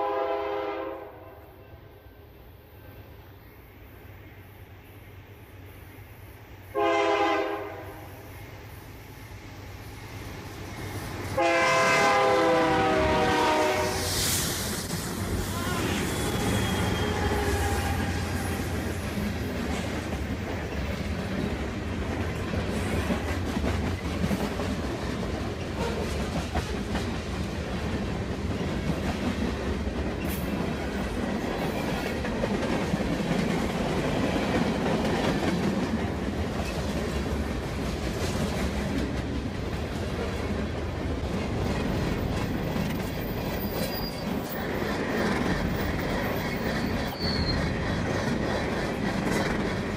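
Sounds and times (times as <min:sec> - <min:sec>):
freight train wagons rumbling on rails: 0:06.8 - 0:49.9.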